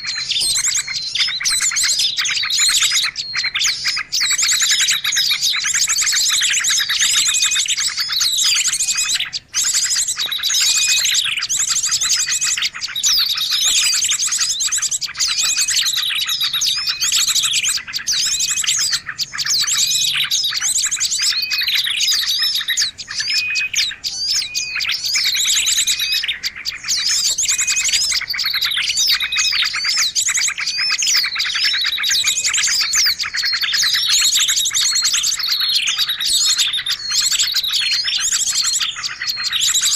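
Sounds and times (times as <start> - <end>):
chorus of songbirds chirping: 0.0 - 39.9.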